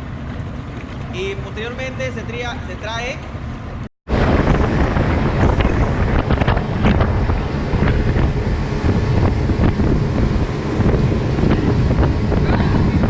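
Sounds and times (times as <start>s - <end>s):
motorboat running: 0.0s - 13.0s
rushing water: 0.0s - 13.0s
wind buffeting microphone: 0.0s - 13.0s.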